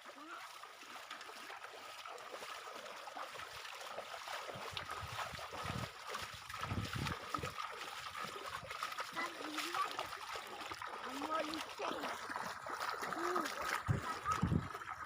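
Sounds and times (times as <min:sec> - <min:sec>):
heavy low water splashes: 0:00.0 - 0:15.0
river water trickling: 0:00.0 - 0:15.0.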